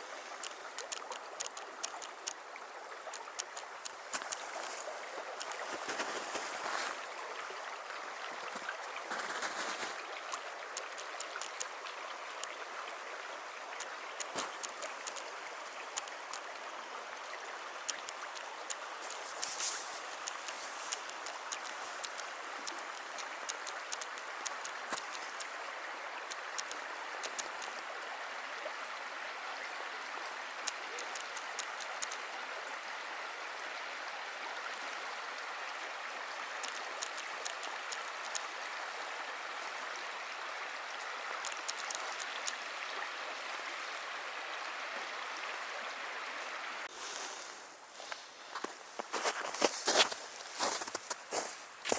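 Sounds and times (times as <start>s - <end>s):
small water splashes: 0.0s - 48.2s
creek water flowing: 0.0s - 51.9s.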